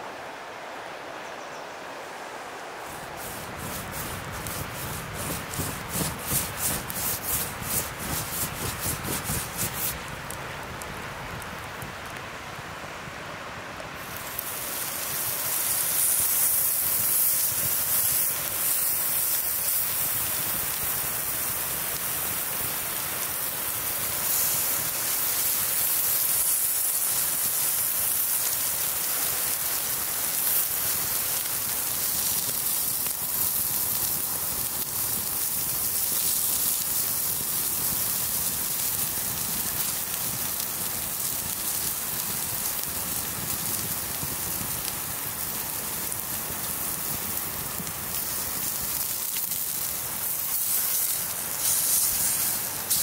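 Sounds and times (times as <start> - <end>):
food sizzling over fire: 2.8 - 53.0.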